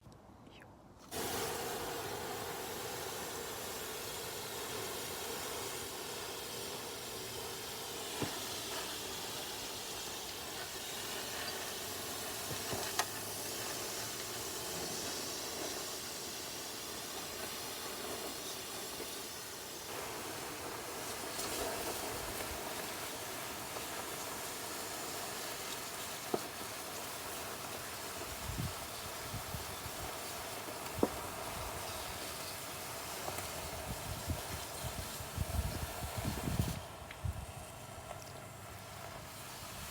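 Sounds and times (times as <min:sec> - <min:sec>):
embers popping: 0:01.0 - 0:39.9
steam hissing from doused campfire: 0:01.0 - 0:39.9.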